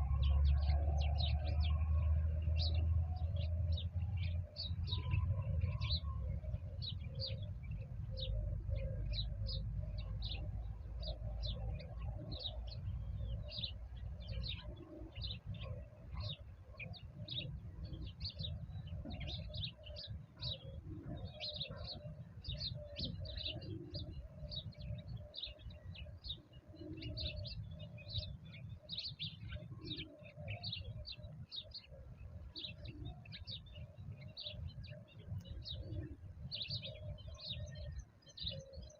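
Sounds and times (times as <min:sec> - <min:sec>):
low bird calls: 0:00.0 - 0:38.9
small birds chirping: 0:00.0 - 0:38.9.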